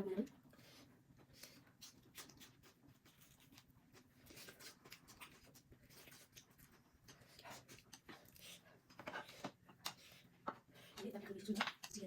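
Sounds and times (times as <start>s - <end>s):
faint eating noises: 0.0s - 12.0s.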